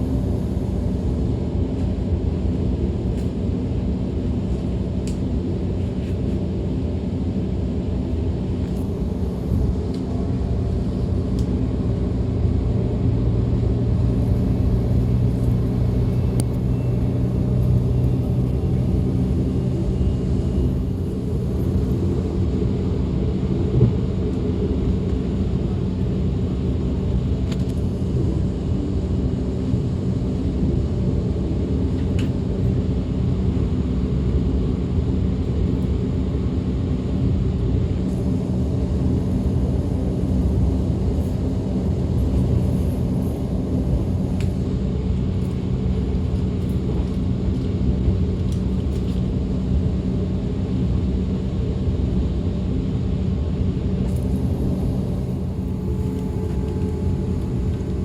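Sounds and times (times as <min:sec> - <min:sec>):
train rolling rumble: 0:00.0 - 0:51.3, 0:53.2 - 0:58.0
low train hum: 0:00.0 - 0:58.0.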